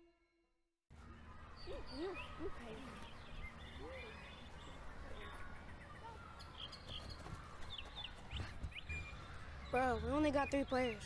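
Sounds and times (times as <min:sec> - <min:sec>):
bird chirps: 0:01.1 - 0:11.0.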